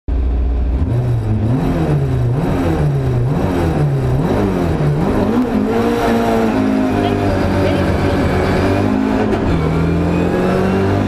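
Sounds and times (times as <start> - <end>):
rally car engine revving: 0.1 - 11.0.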